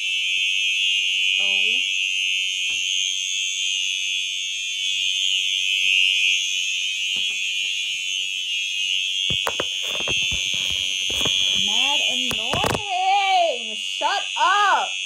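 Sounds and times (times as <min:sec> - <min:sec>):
fire alarm tone: 0:00.0 - 0:15.0.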